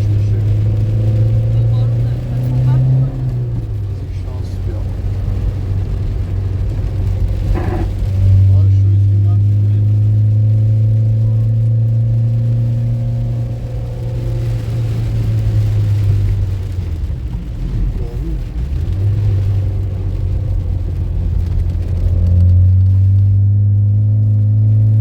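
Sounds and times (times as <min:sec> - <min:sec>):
car engine humming while driving: 0:00.0 - 0:25.0.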